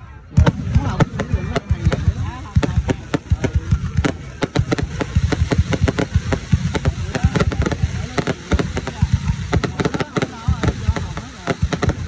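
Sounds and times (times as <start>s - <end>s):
faint voices: 0.0s - 12.0s
fireworks bursting: 0.1s - 12.0s.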